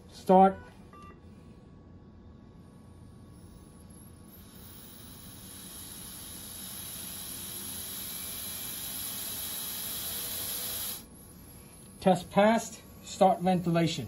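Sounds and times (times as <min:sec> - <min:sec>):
ventilator air hissing: 0:02.5 - 0:14.0.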